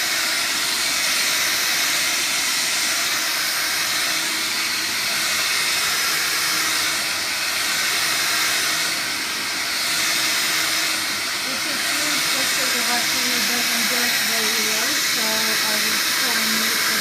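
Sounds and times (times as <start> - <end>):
stick vacuum running: 0.0 - 17.0.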